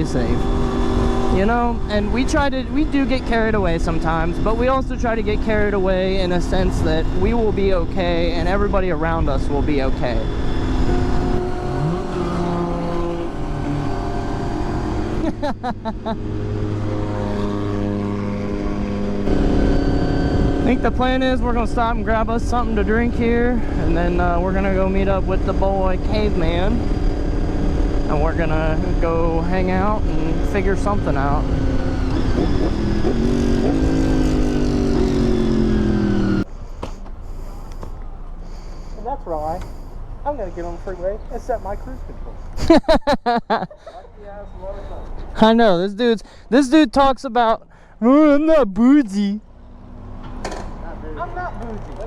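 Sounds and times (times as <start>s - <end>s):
motorcycle engine cruising: 0.0s - 45.5s, 49.4s - 52.0s
road and wind noise: 0.0s - 52.0s.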